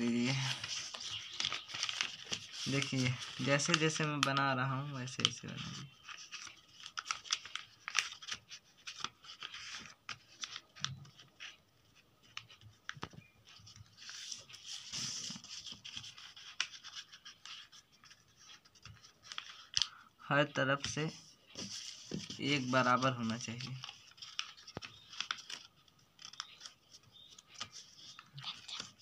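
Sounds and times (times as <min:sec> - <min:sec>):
paper being folded and creased: 0:00.0 - 0:19.9, 0:20.5 - 0:29.0.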